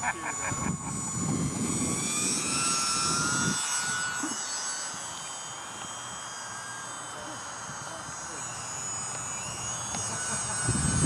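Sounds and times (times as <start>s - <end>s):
model plane propellers whining: 0.0s - 11.0s.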